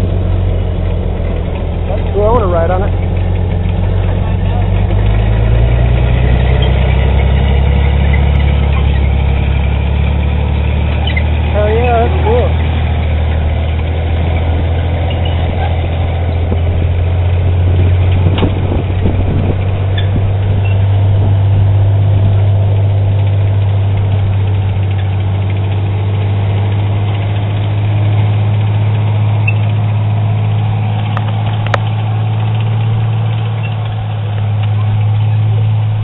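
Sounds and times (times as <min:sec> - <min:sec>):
tractor engine idling: 0:00.0 - 0:36.0.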